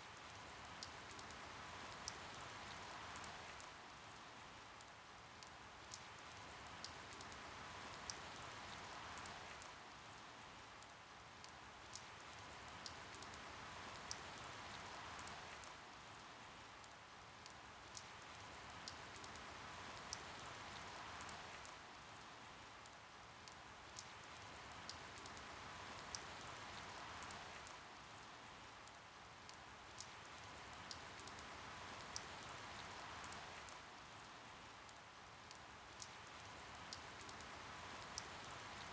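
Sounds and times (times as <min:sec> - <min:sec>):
rain drops pattering: 0:00.0 - 0:38.9.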